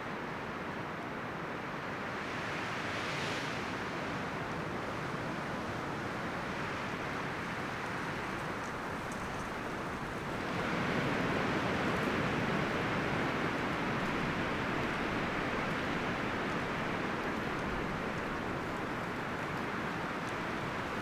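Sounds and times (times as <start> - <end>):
wind rustling forest leaves: 1.5 - 21.0.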